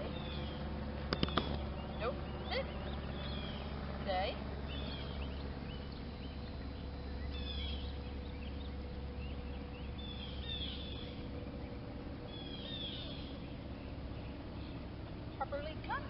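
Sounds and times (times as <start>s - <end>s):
low outdoor rumble: 0.0s - 16.0s
small birds chirping: 0.0s - 16.0s.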